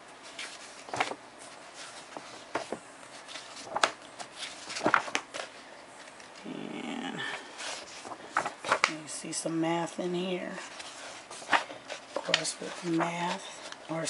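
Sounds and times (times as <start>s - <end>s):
book pages flipping: 0.2s - 6.5s, 7.3s - 9.0s, 10.2s - 14.0s.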